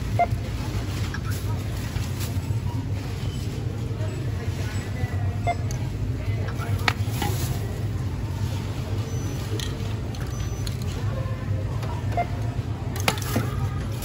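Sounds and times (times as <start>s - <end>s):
faint distant voices: 0.0s - 14.0s
store background hum: 0.0s - 14.0s.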